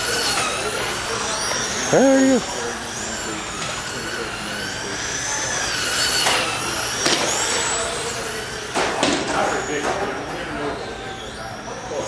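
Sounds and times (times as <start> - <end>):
rc cars whining: 0.0 - 12.0.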